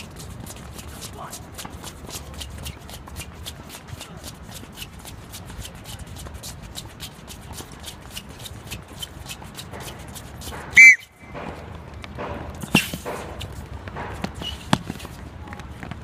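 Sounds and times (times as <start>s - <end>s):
rapid footfalls on hard court: 0.0s - 16.0s
sneakers scuffing and squeaking: 0.0s - 16.0s.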